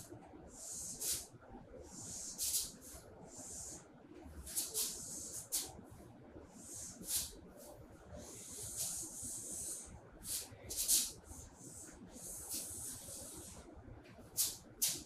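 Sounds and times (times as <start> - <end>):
marker hissing on whiteboard: 0.0 - 3.8, 4.4 - 5.8, 6.5 - 15.0.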